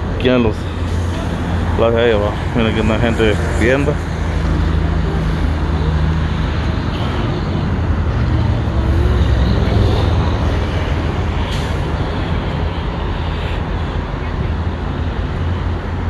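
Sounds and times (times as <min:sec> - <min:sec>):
heavy vehicle passing: 0:00.0 - 0:16.0
vehicle engines rumbling: 0:00.0 - 0:16.0.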